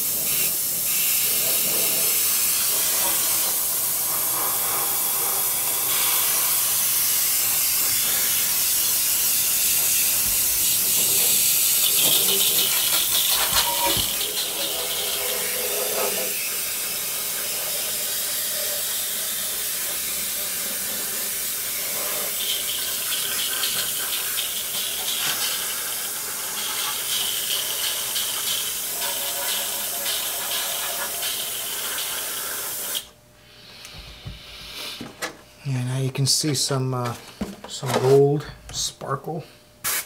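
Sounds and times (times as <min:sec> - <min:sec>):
airbrush hissing: 0:00.0 - 0:35.0.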